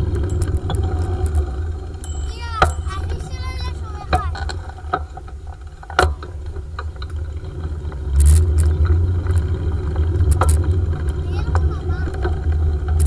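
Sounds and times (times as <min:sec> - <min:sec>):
bicycle knocks and rattles: 0:00.0 - 0:13.0
wheels rumbling on pavement: 0:00.0 - 0:13.0.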